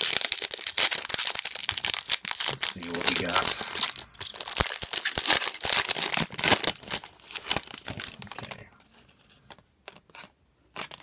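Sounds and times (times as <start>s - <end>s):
foil wrapper tearing and crinkling: 0.0s - 8.6s, 10.0s - 11.0s.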